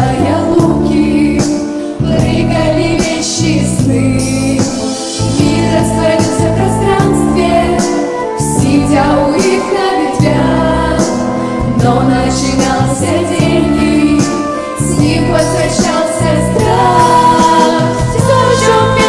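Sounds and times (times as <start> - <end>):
backing track with beat: 0.0 - 19.0
pop vocal group singing: 0.0 - 19.0.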